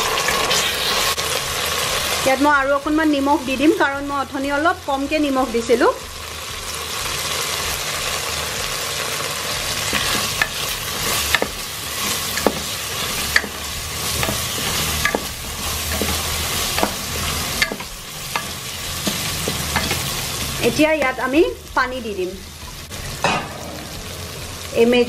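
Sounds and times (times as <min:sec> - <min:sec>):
rice sizzling in oil: 0:00.0 - 0:25.0.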